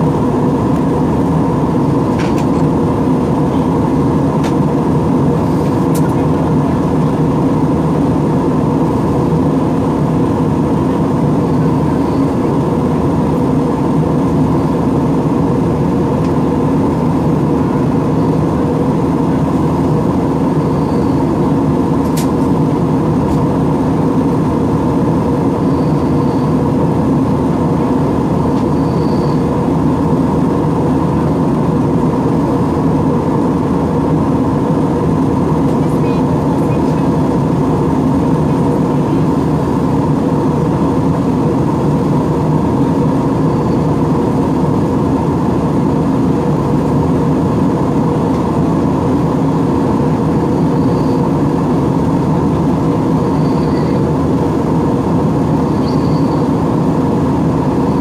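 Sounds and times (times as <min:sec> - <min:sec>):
airliner engines droning: 0:00.0 - 0:58.0.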